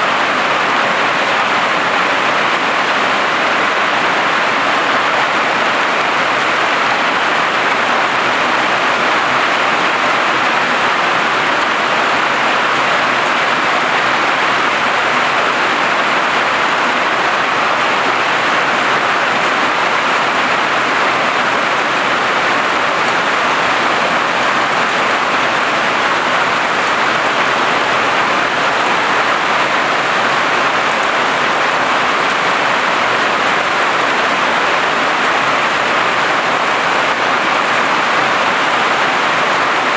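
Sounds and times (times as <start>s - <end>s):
hail drumming on a tin roof: 0.1s - 39.9s.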